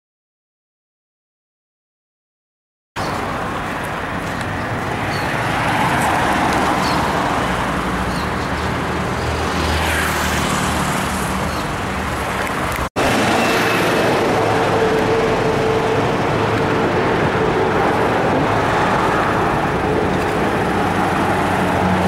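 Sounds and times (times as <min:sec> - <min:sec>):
street traffic hum: 0:03.0 - 0:22.0.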